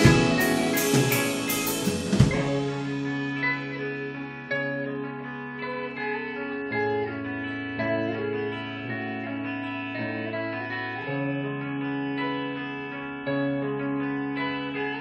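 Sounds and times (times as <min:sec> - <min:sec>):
electric guitars playing chords: 0:00.0 - 0:15.0.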